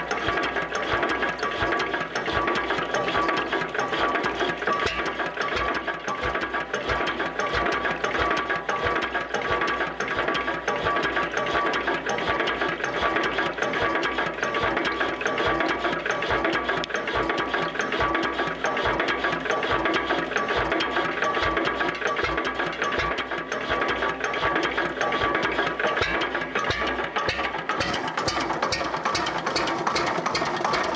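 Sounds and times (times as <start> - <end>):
diesel engine clattering: 0.0 - 30.9.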